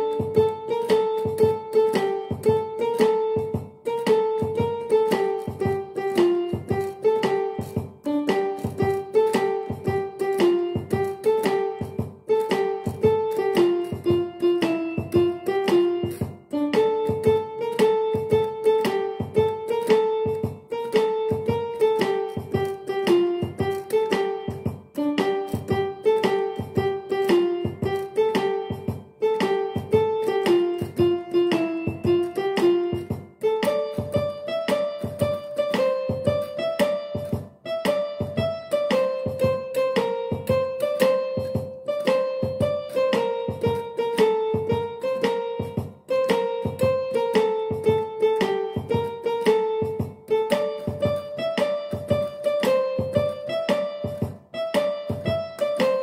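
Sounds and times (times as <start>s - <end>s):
electronic keyboard piano melody: 0.0s - 56.0s.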